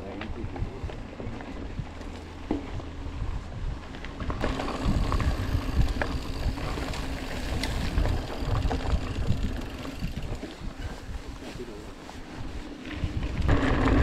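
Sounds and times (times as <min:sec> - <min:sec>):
bike clicks and rattles: 0:00.0 - 0:11.6, 0:12.6 - 0:14.0
bike tyres rolling on gravel: 0:00.0 - 0:14.0
wind buffeting microphone: 0:00.0 - 0:14.0.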